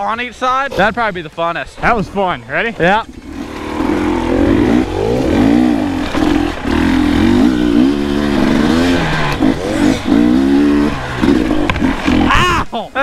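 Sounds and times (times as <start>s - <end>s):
dirt bike engine revving: 1.8s - 12.6s.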